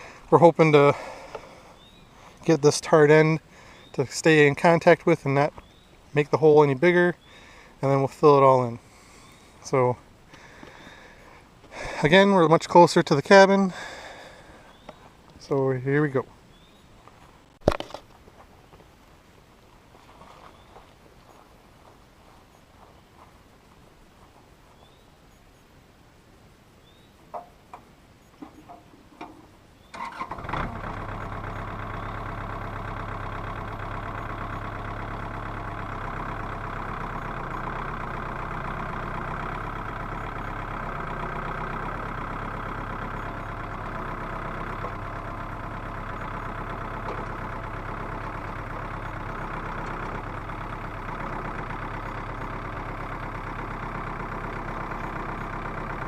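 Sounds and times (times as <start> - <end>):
tractor engine running: 0.0 - 22.6, 27.3 - 56.0.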